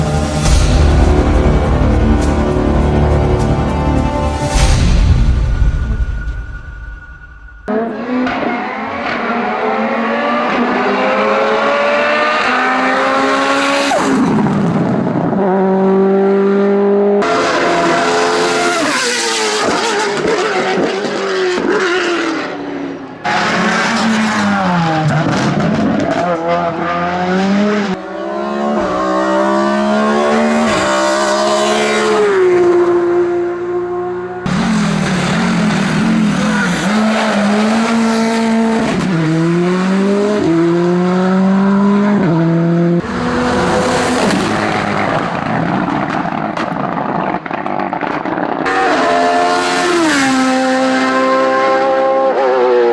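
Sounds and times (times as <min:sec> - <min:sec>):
racing car engines revving: 0:07.6 - 0:52.9.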